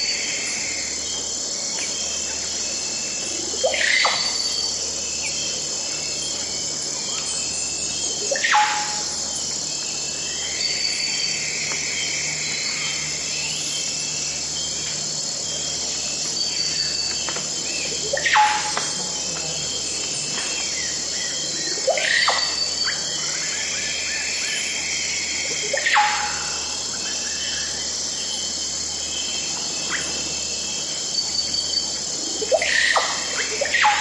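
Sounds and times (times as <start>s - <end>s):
insect chorus: 0.0s - 34.0s.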